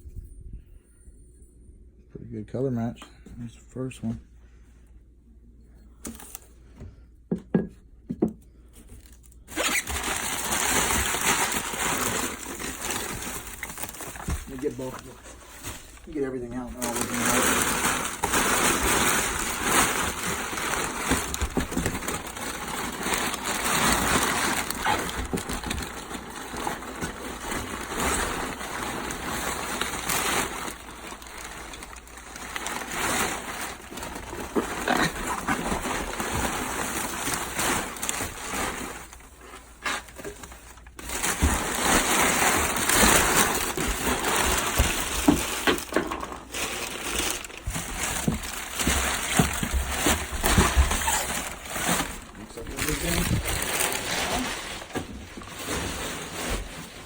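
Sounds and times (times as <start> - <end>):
packaging rustling and crinkling: 6.0 - 6.5, 8.7 - 57.0.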